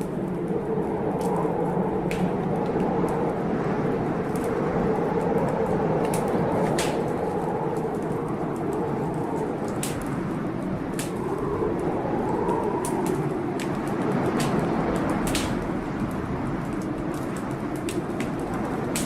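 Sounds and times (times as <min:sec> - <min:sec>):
blizzard wind blowing: 0:00.0 - 0:19.0
wood fire crackling: 0:00.0 - 0:19.0.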